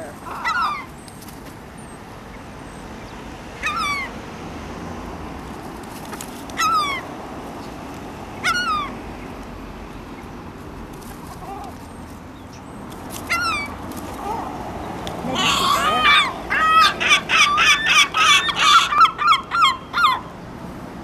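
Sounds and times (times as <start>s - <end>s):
gulls calling: 0.0s - 1.2s, 1.8s - 4.2s, 6.5s - 10.4s, 11.1s - 20.4s.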